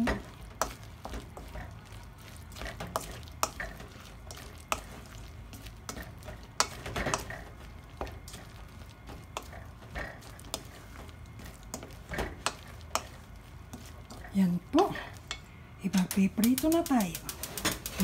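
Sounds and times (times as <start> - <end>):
stirring thick batter: 0.0 - 15.5.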